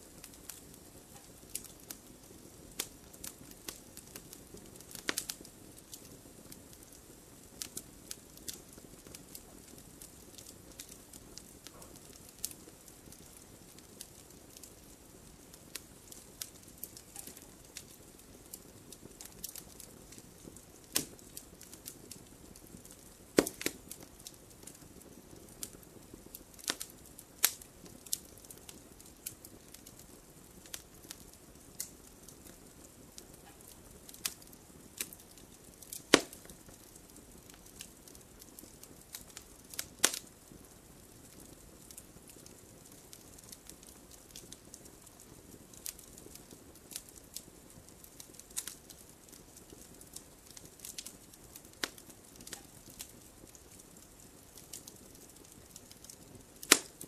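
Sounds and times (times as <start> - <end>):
campfire crackling and popping: 0.0 - 57.0
soft low hiss: 0.0 - 57.0.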